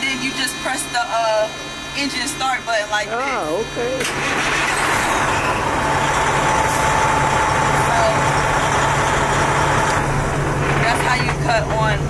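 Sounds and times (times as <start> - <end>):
diesel truck engine idling: 0.1 - 12.0.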